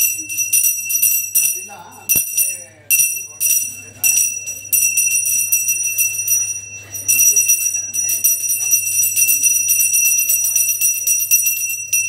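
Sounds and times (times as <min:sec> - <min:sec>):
hand bell ringing rapidly: 0:00.0 - 0:12.0.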